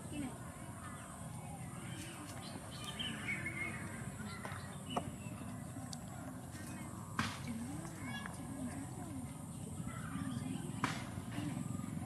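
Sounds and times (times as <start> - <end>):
low voices: 0.0 - 12.0.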